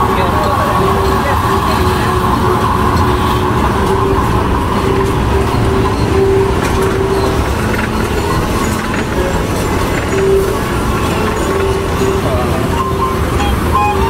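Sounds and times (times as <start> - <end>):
faint pitched tone: 0.0 - 14.0.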